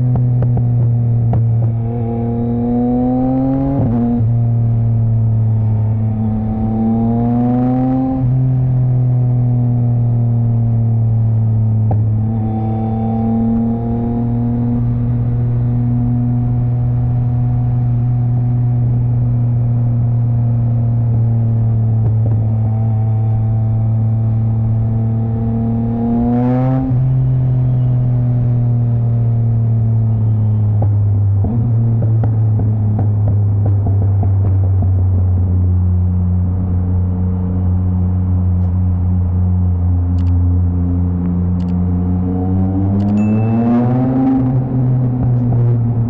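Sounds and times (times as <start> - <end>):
motorcycle engine and exhaust: 0.0 - 46.0.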